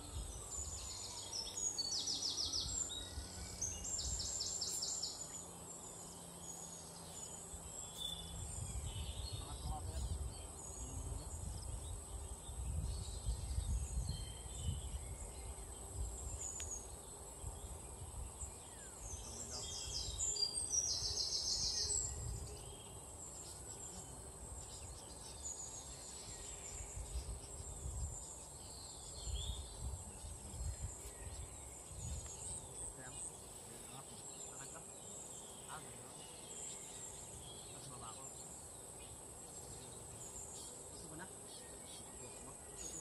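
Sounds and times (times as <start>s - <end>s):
insects and birds chirping: 0.0s - 43.0s.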